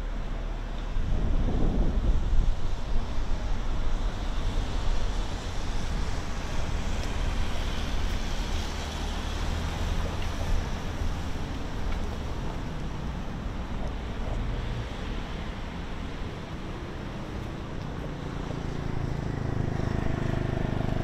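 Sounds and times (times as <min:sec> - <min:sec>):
low rumble of road traffic: 0:00.0 - 0:21.0
wind buffeting the microphone: 0:00.8 - 0:17.7.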